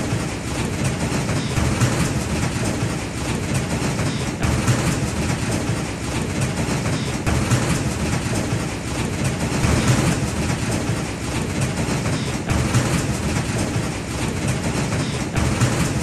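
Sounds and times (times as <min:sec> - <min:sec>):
hail and rain pelting down: 0:00.0 - 0:16.0.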